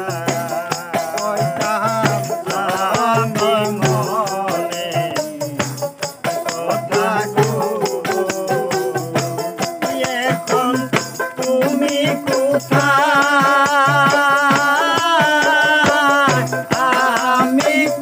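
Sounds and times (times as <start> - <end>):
man singing: 0.0 - 18.0
shaken rattle beat: 0.0 - 18.0.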